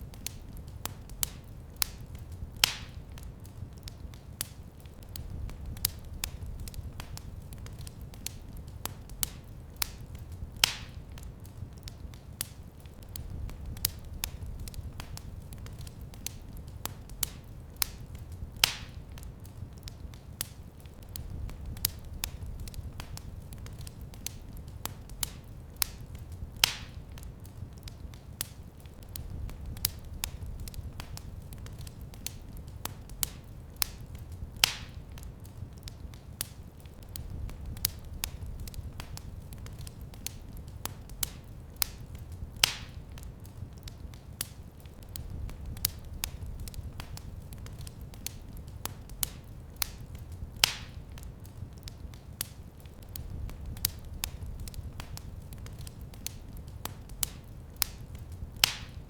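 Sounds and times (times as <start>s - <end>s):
fire crackling: 0.0s - 59.0s
loud fire pops: 0.0s - 59.0s.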